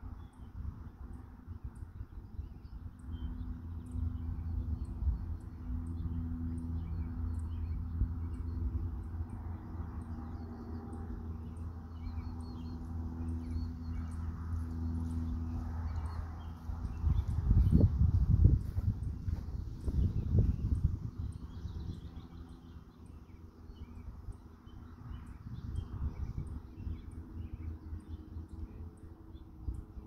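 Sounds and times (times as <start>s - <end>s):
steady low hum: 0.0s - 30.0s
wind rumbling on microphone: 0.0s - 30.0s.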